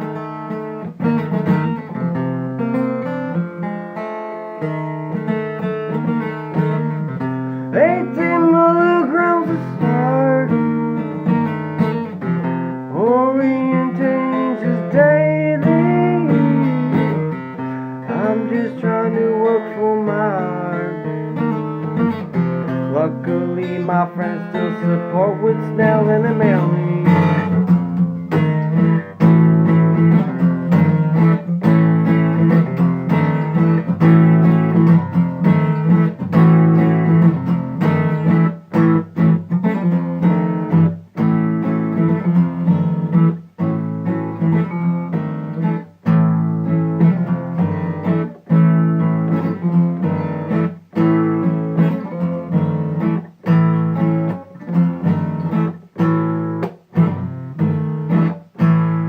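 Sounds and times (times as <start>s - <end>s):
guitar strumming chords: 0.0s - 59.0s.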